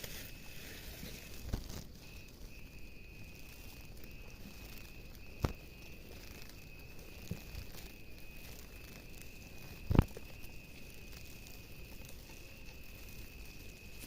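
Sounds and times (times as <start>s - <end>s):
insect high-pitched call: 0.0s - 14.0s.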